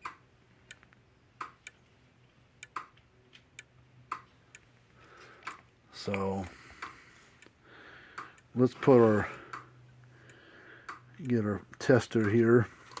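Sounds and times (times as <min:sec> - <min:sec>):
electric fence ticks: 0:00.0 - 0:01.8, 0:02.6 - 0:04.8, 0:05.4 - 0:08.6, 0:09.4 - 0:12.6.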